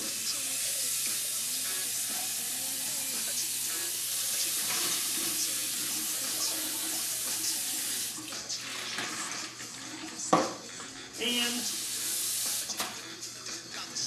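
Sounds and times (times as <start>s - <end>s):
tap water running: 0.0s - 13.1s.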